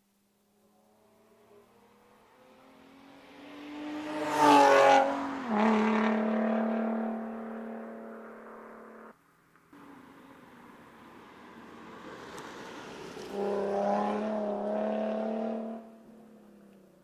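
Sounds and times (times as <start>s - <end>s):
car engine passing by: 0.9s - 9.1s, 9.8s - 16.8s.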